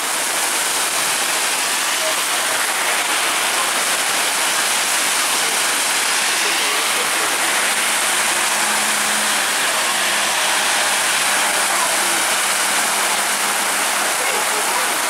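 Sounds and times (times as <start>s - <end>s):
bus passing on wet road: 0.0s - 15.0s
heavy rain pouring: 0.0s - 15.0s.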